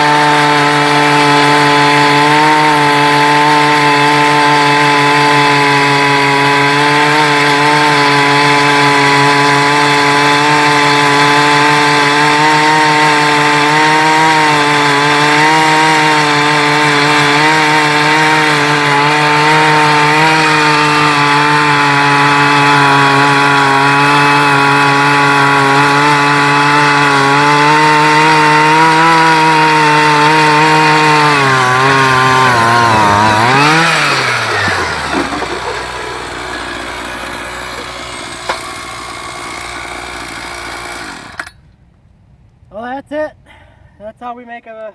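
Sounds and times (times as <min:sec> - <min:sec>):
ice auger engine running: 0:00.0 - 0:41.6.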